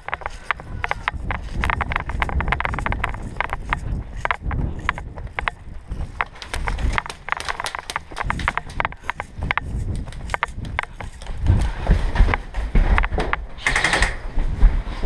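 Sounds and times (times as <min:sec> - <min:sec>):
running footsteps on dry leaves: 0:00.0 - 0:12.8
gear clicking and rattling: 0:00.0 - 0:14.2.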